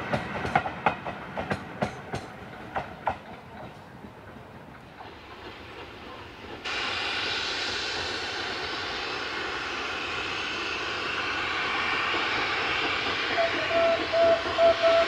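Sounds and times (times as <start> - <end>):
steam locomotive rushing roar: 0.0 - 15.0
train on rails: 0.0 - 15.0.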